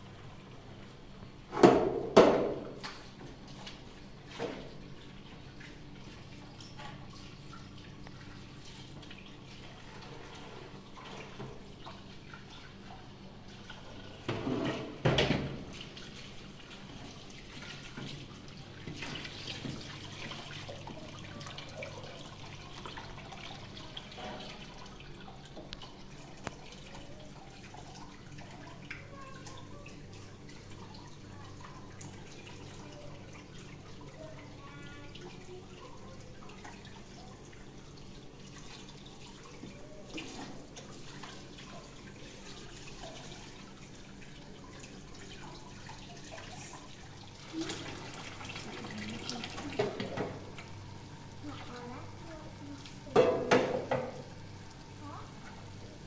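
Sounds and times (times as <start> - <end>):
water running and dripping: 0.0 - 56.0.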